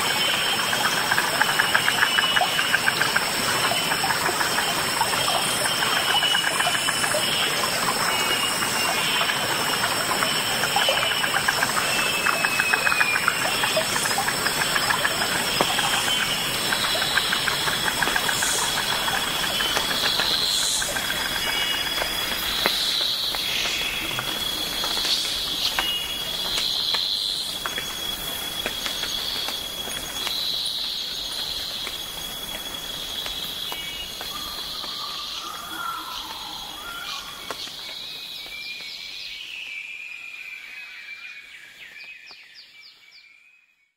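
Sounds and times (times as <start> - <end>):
high insect-like tones: 0.0 - 38.3.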